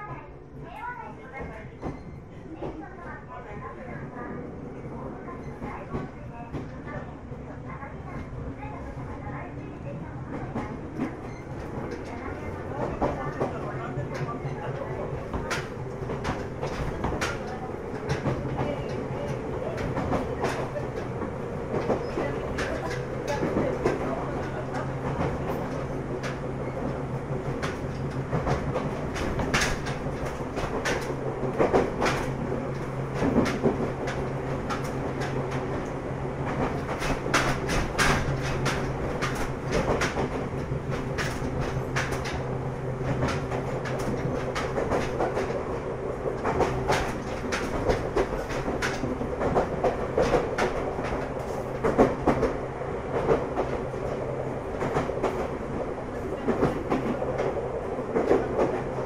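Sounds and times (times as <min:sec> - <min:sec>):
electric train hum and rumble: 0:00.0 - 0:59.0
wheels clicking over rail joints: 0:10.3 - 0:59.0.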